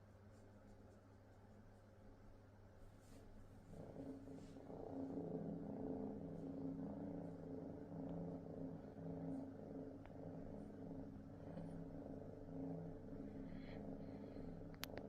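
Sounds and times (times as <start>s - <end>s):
kitten purring: 0.3s - 15.0s.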